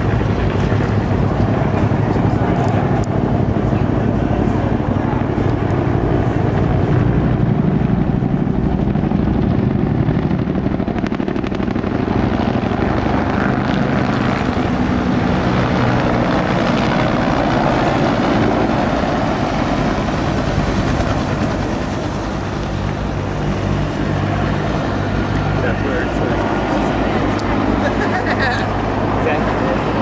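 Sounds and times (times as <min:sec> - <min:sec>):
helicopters flying low past: 0:00.0 - 0:30.0.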